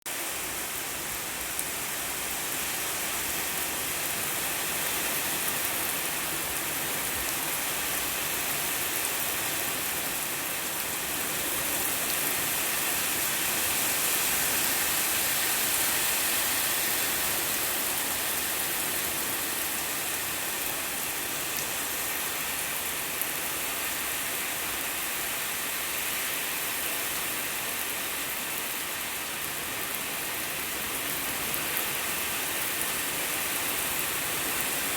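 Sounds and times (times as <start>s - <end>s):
rain pattering on surfaces: 0.1s - 34.9s.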